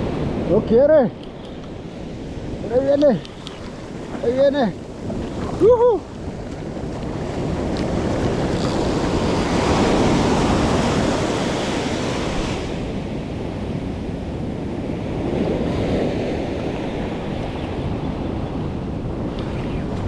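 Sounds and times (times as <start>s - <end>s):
ocean surf washing up beach: 0.0s - 20.0s
wind buffeting microphone: 0.0s - 20.0s.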